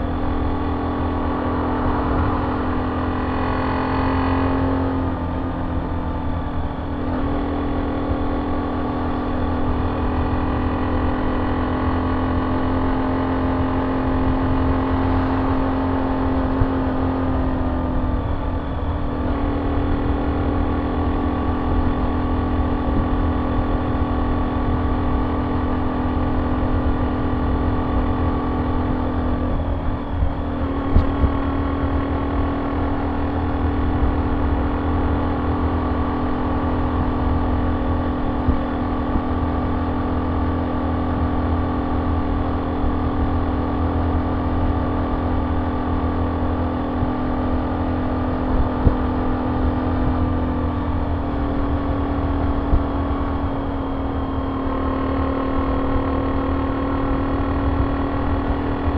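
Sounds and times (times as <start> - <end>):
motorcycle engine cruising: 0.0 - 58.9.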